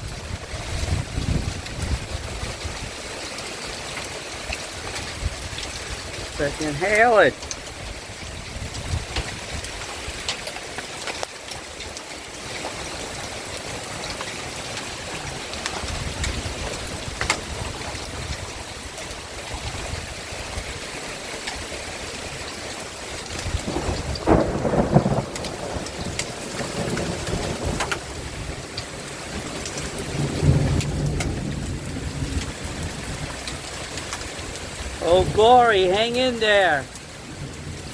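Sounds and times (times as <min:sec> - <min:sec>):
hail hissing: 0:00.0 - 0:37.9
hailstones clicking on hard surfaces: 0:00.0 - 0:37.9.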